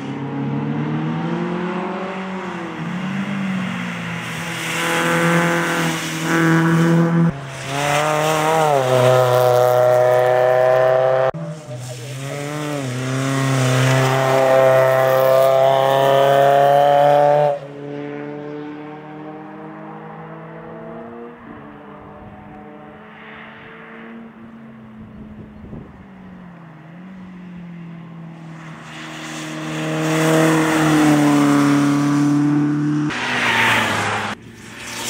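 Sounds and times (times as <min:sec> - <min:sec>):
rally car engine at high revs: 0:00.0 - 0:24.6, 0:28.4 - 0:35.0.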